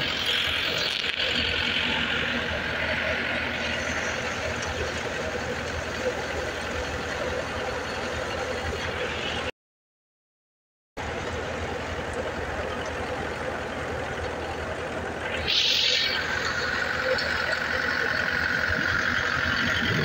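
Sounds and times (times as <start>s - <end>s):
drum thresher running: 0.0s - 9.5s, 11.0s - 20.0s
tractor engine running: 0.0s - 9.5s, 11.0s - 20.0s.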